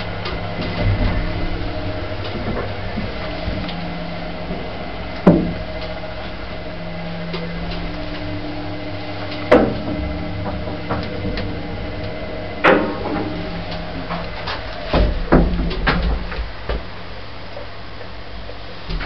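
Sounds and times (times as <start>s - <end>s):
lift clunks: 0.0s - 16.9s
lift mechanical hum: 0.0s - 19.0s.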